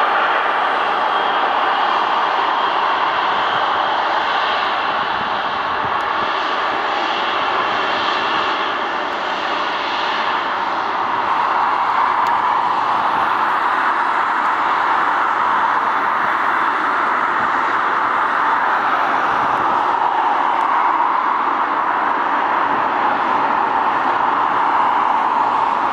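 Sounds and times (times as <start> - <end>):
jet engines rushing: 0.0 - 25.9.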